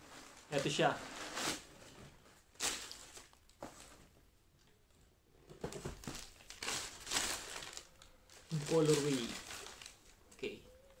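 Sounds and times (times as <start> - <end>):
packing paper rustling: 0.0 - 4.0, 5.6 - 10.5.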